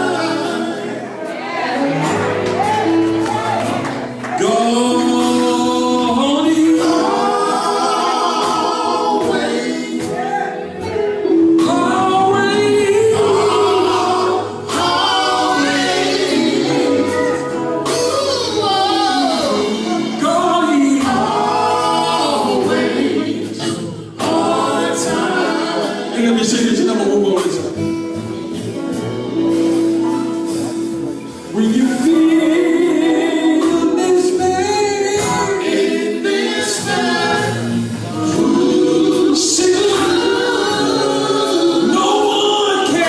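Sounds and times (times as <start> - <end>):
gospel vocal group singing: 0.0 - 43.0.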